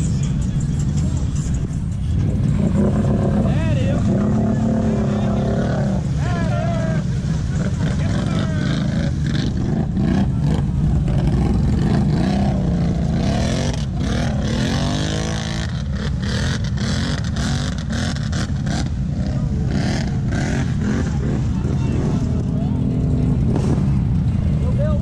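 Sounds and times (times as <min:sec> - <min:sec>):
off-road vehicle engines revving: 0:00.0 - 0:25.0.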